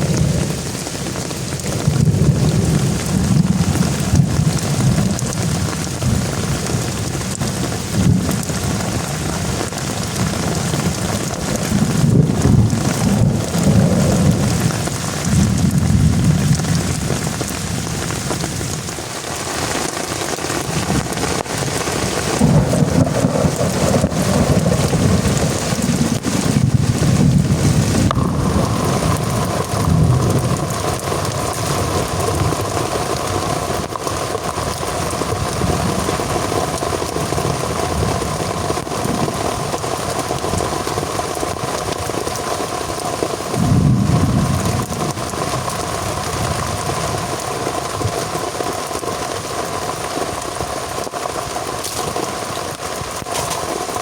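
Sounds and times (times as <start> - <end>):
thunder rumbling: 0.0 - 18.8, 20.3 - 42.2, 43.4 - 48.4
heavy rain: 0.0 - 54.0.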